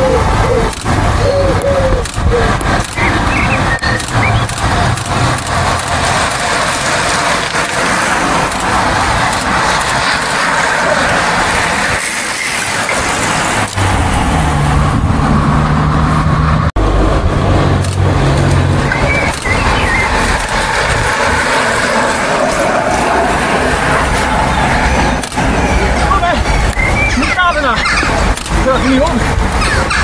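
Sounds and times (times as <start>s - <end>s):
car engine passing: 0.0s - 30.0s
loud constant rushing noise: 0.0s - 30.0s.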